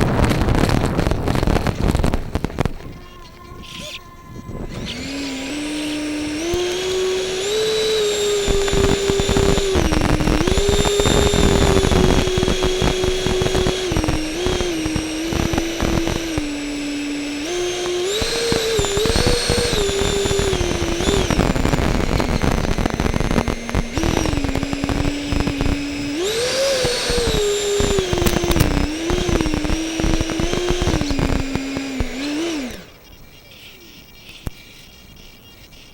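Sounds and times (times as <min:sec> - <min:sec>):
wind buffeting: 0:00.0 - 0:32.9
model jet electric motor whining: 0:00.0 - 0:33.0.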